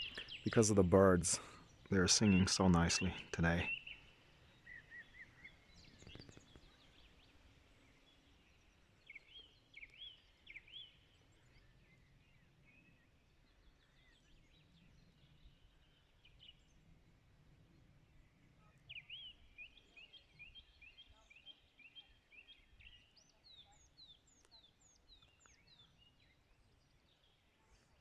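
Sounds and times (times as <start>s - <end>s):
distant songbirds whistling: 0.0s - 28.0s.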